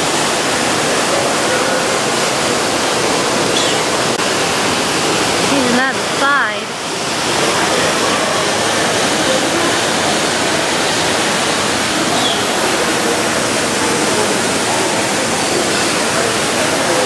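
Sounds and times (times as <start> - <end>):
water falling into a pool: 0.0 - 17.0.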